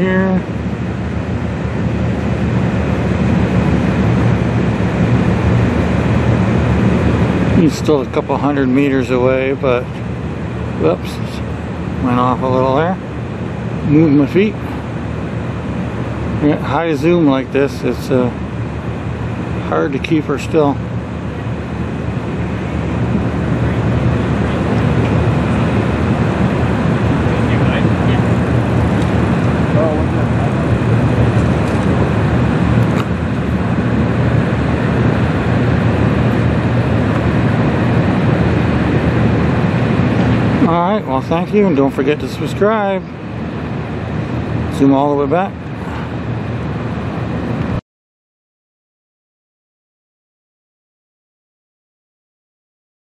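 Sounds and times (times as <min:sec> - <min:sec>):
rushing haze: 0:00.0 - 0:47.7
ship engine low drone: 0:00.0 - 0:47.8.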